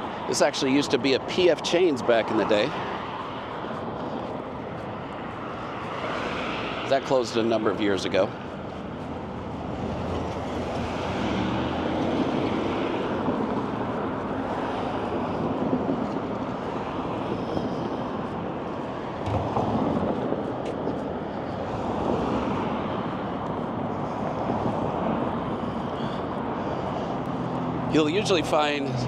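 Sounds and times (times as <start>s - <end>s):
road traffic passing: 0.0s - 29.0s.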